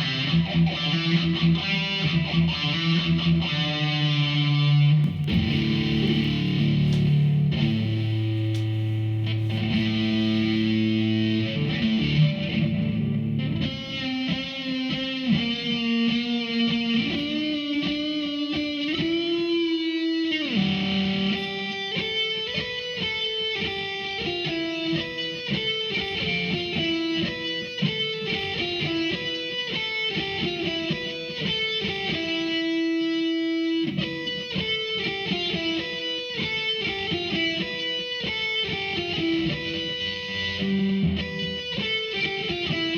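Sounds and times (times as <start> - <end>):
distorted electric guitar: 0.0 - 42.9.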